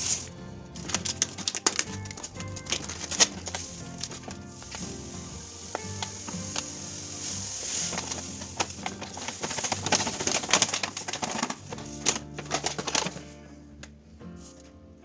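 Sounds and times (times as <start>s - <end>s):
dry goods poured rattling: 0.0s - 13.4s
soft background music: 0.0s - 15.0s.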